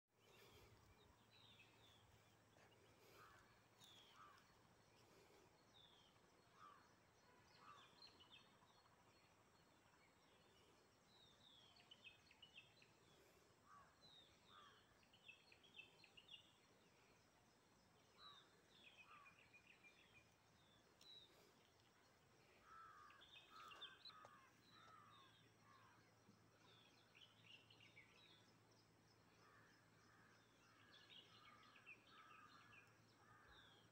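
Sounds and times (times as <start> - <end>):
birds chirping: 0.2 - 17.2, 18.0 - 33.9.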